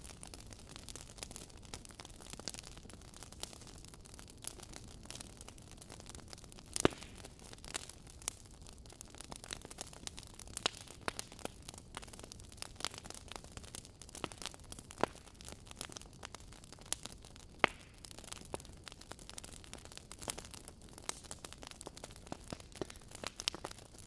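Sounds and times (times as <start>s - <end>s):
log fire crackling: 0.0s - 24.0s.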